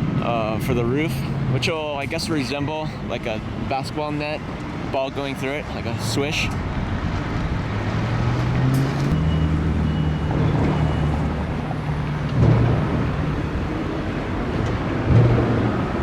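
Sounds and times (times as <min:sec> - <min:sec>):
vehicle engines droning: 0:00.0 - 0:16.0.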